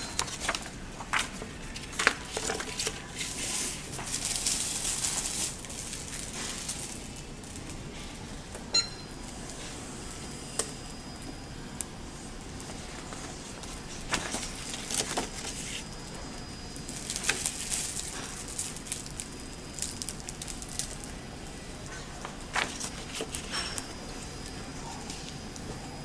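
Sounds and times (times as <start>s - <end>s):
laminating film crackling: 0.0s - 8.2s, 10.6s - 26.0s
faint machine noise: 0.0s - 26.0s.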